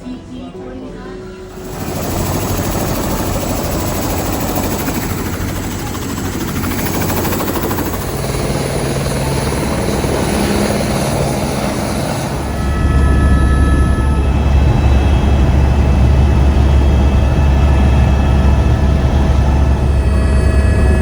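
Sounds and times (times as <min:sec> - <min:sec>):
helicopter engine and rotor: 0:01.3 - 0:21.0.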